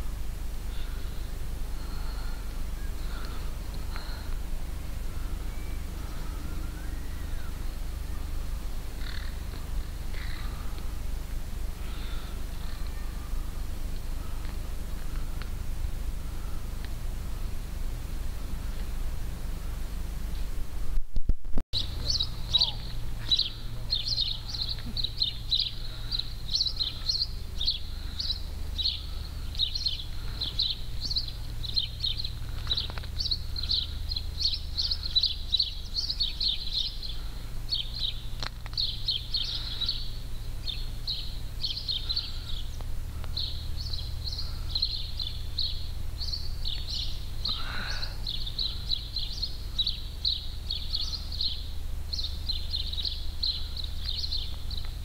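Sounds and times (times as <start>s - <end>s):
steady low rumble: 0.0s - 55.0s
small birds chirping: 0.5s - 19.0s, 21.8s - 55.0s.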